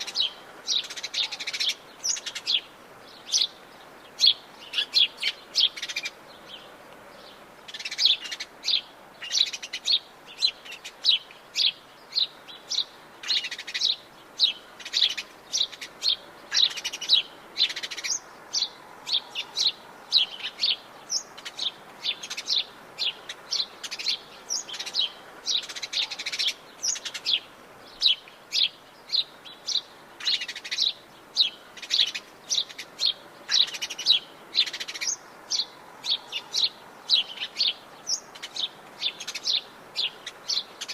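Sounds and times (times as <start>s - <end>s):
birds chirping: 0.0s - 40.9s
faint forest hiss: 0.0s - 40.9s.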